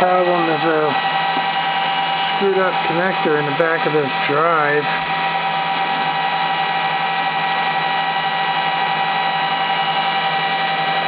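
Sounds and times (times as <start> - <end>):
cooling fans whirring: 0.0 - 11.0
whining tones: 0.0 - 11.0.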